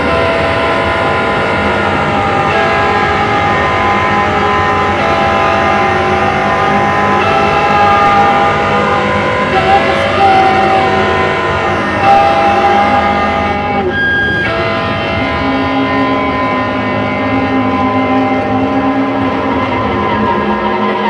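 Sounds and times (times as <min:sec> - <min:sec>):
droning tones over distorted noise: 0:00.0 - 0:21.0.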